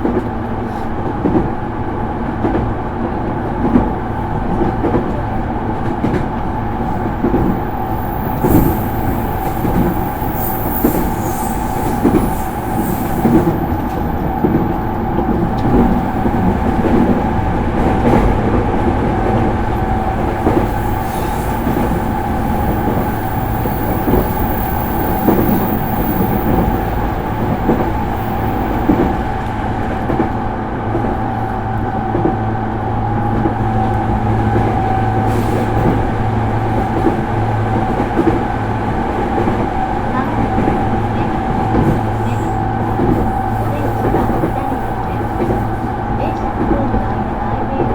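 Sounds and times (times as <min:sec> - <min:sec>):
electric train rumble and whine: 0:00.0 - 0:47.9.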